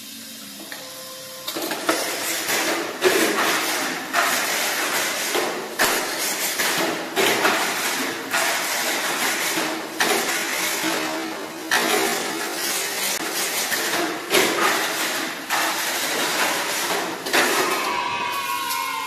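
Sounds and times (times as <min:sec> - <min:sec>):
toy car rattling on track walls: 0:01.6 - 0:18.2.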